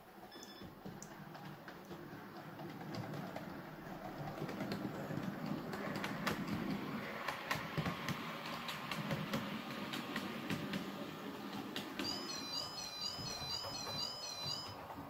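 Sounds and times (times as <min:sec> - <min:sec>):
wheels clicking on track: 0:00.1 - 0:15.0.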